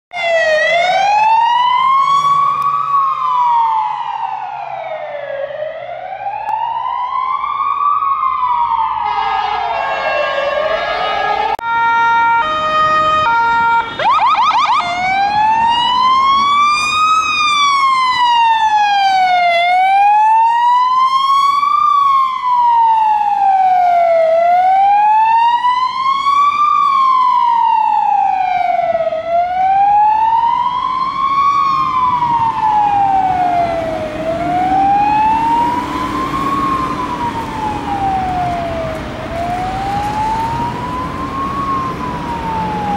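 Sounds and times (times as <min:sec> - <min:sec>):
ambulance siren wailing: 0:00.1 - 0:42.9.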